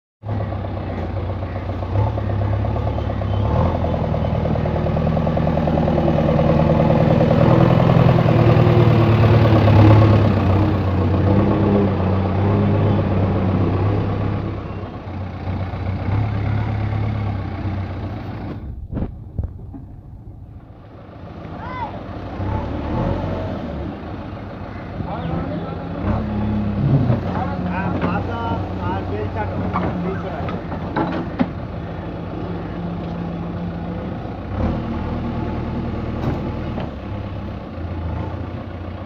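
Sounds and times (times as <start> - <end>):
diesel engine running: 0.2 - 39.0.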